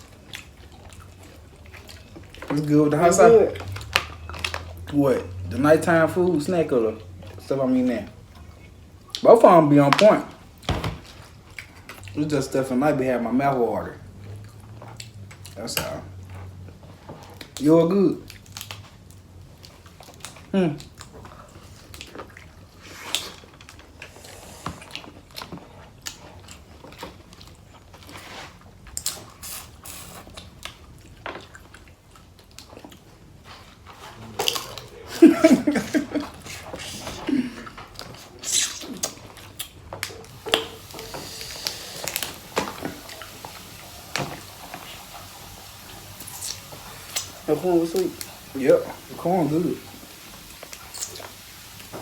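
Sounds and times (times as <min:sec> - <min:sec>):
chewing and mouth smacking: 0:00.0 - 0:05.6, 0:08.0 - 0:09.3, 0:10.0 - 0:12.2, 0:14.0 - 0:35.2, 0:36.2 - 0:49.1, 0:49.8 - 0:52.0.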